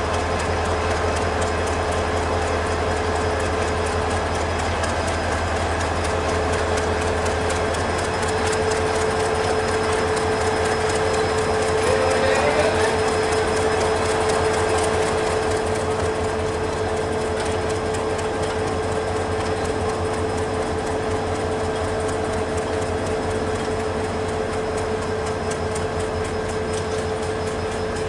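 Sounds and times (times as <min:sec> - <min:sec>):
diesel locomotive engine drone: 0:00.0 - 0:28.0
wheels clicking over rail joints: 0:00.0 - 0:28.0.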